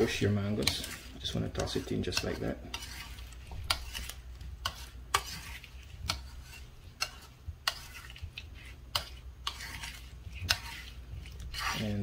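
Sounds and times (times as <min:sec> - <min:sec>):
wet stirring: 0:00.0 - 0:12.0.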